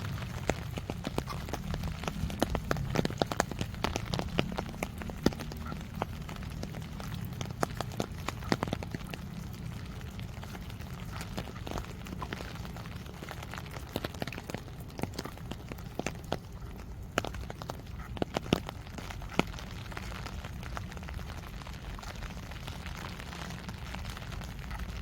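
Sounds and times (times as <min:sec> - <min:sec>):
raindrops tapping: 0:00.0 - 0:25.0
steady low rumble: 0:00.0 - 0:25.0.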